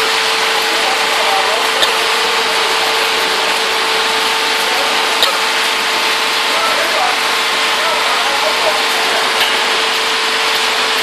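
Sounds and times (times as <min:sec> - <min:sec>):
fryer machinery hiss and hum: 0:00.0 - 0:11.0.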